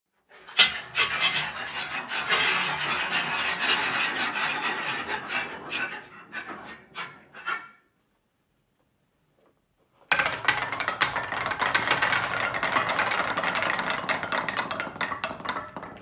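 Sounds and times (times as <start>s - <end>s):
balls rattling down wooden arches: 0.3s - 7.8s, 10.1s - 16.0s.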